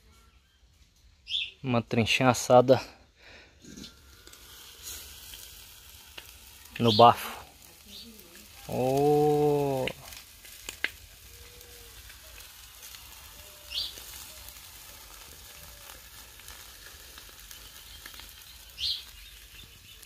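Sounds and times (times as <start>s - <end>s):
fish sizzling on a grill: 3.3s - 20.0s.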